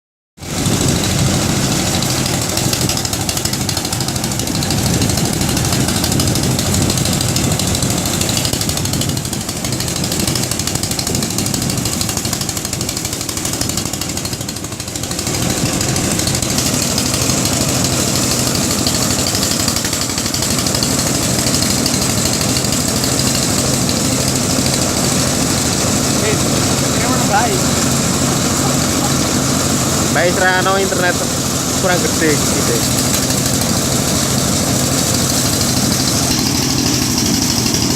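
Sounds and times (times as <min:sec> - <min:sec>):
engine-driven blower running: 0:00.4 - 0:37.9.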